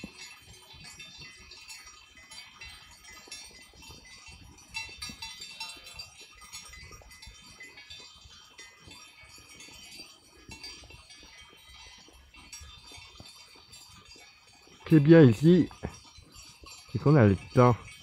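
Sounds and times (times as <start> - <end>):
sheep bells clinking: 0.0 - 18.0.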